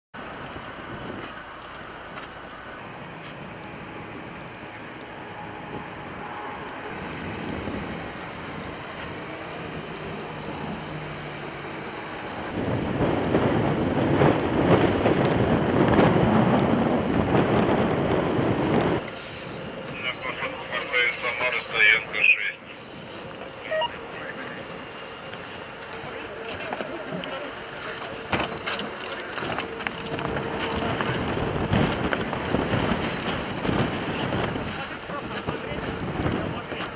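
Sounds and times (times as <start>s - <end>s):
road noise: 0.1s - 36.9s
vehicle engine hum: 0.2s - 36.9s.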